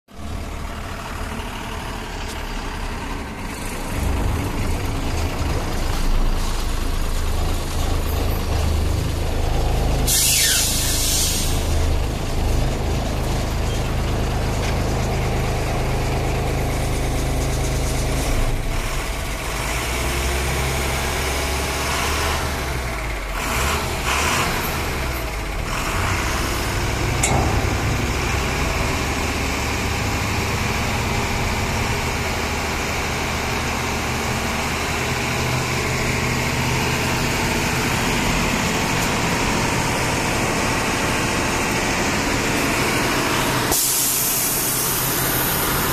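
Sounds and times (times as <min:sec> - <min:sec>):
diesel engine running: 0:00.1 - 0:45.9.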